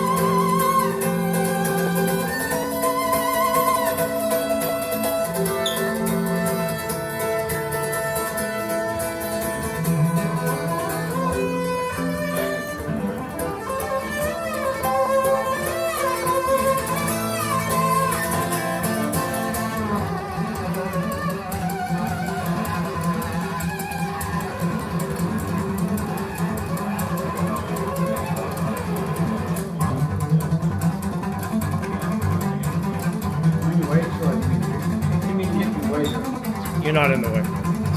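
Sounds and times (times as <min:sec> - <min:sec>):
string music over loudspeakers: 0:00.0 - 0:37.9.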